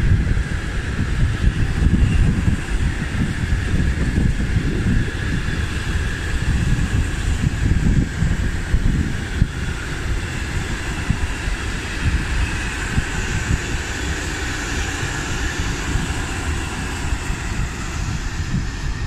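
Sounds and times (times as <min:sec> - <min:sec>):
train wheels on rails: 0:00.0 - 0:19.0
wind buffeting microphone: 0:00.0 - 0:19.0.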